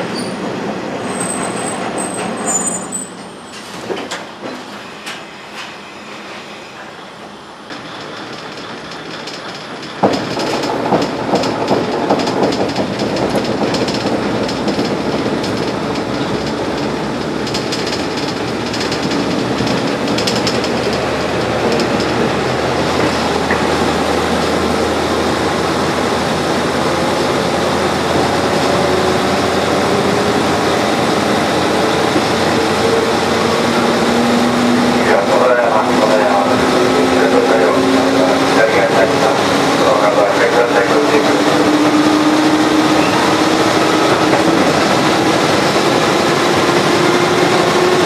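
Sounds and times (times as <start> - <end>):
train running noise: 0.0 - 48.0
wheels clacking over rail joints: 7.7 - 48.0.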